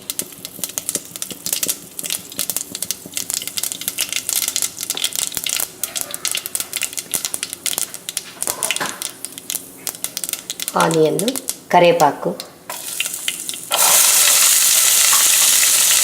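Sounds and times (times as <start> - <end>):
oil sizzling: 0.0 - 16.0
seeds popping in hot oil: 0.0 - 16.0.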